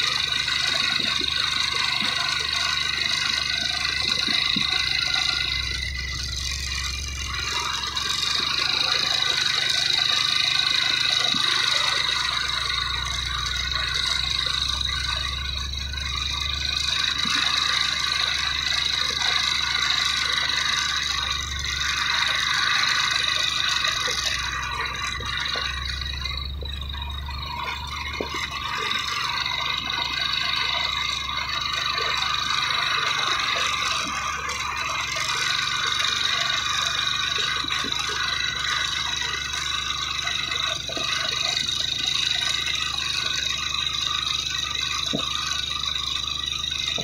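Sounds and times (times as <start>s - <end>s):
high-pitched drone: 0.0s - 47.0s
vehicle engines climbing a hill: 0.0s - 47.0s.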